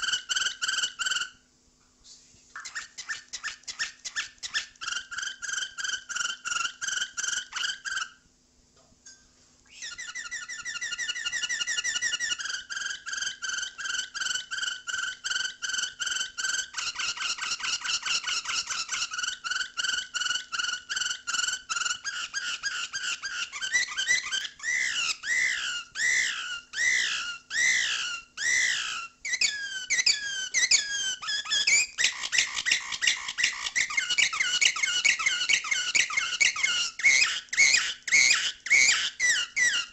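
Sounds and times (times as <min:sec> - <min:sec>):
canary singing: 0:00.0 - 0:01.4, 0:02.6 - 0:08.2, 0:09.7 - 0:39.9.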